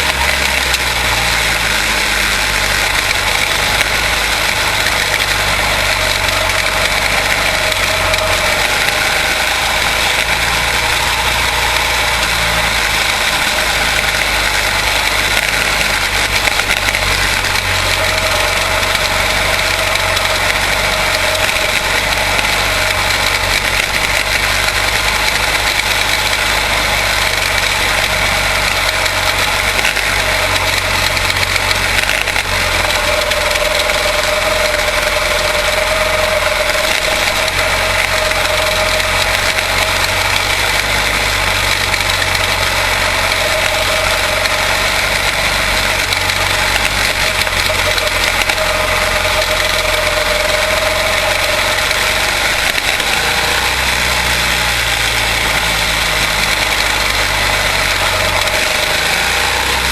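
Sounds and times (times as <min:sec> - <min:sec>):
small race car engines running: 0:00.0 - 0:59.9.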